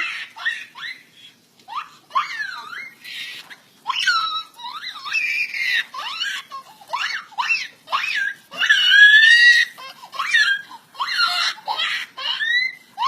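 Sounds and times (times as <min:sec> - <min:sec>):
baby laughing and squealing: 0:00.0 - 0:13.0.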